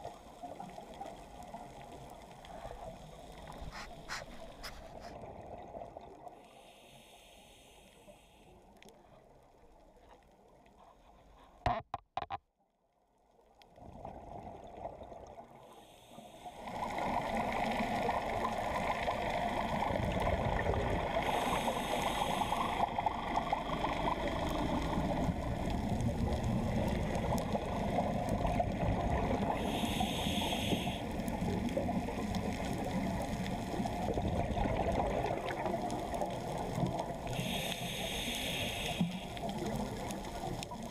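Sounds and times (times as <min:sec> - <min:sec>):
muffled underwater rush: 0:00.0 - 0:07.8, 0:13.8 - 0:40.9
exhaled bubbles hissing: 0:00.0 - 0:08.5, 0:14.0 - 0:40.9.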